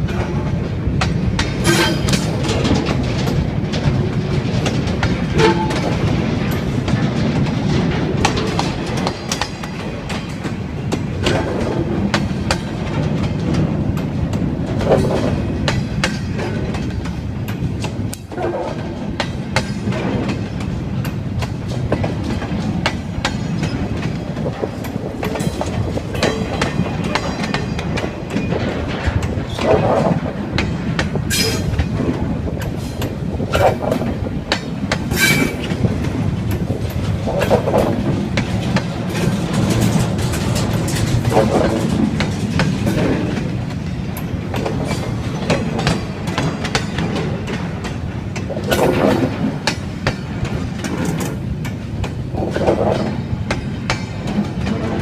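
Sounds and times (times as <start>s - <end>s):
railcars rumbling: 0.0s - 55.0s
wheels clacking over rail joints: 0.0s - 55.0s.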